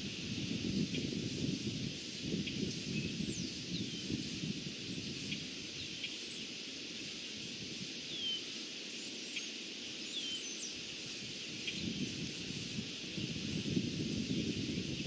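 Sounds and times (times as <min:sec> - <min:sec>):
leaves rustling: 0:00.0 - 0:15.0
steady hiss: 0:00.0 - 0:15.0
small birds chirping: 0:00.6 - 0:15.0.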